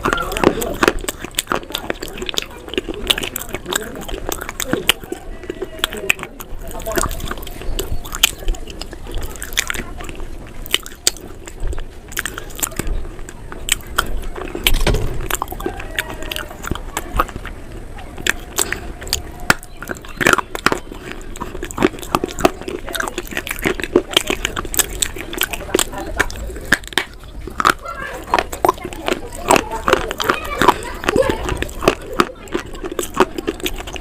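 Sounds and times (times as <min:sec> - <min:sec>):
crunching and chewing of crunchy food: 0:00.0 - 0:34.0.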